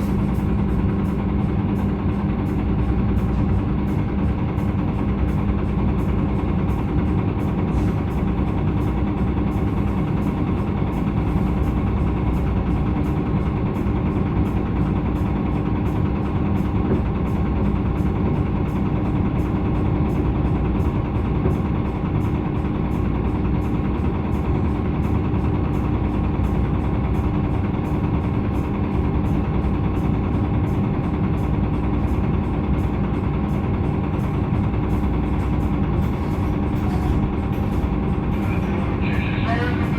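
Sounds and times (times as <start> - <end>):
bus engine running steadily: 0.0 - 39.9.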